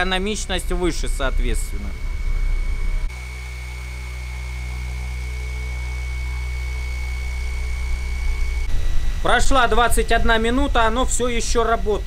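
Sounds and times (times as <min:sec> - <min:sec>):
electric motor humming and whining: 0:00.0 - 0:12.0.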